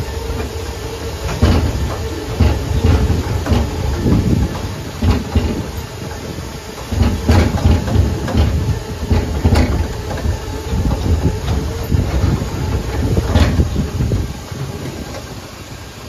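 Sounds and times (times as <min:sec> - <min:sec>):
tram rumbling over wooden planks: 0:00.0 - 0:16.0.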